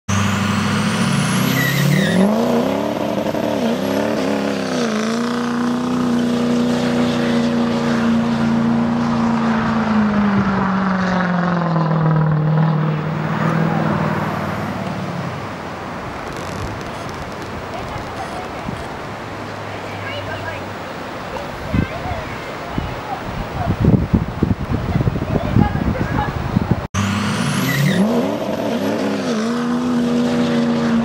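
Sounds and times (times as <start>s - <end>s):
diesel truck engine revving: 0.1s - 19.7s, 23.2s - 31.0s.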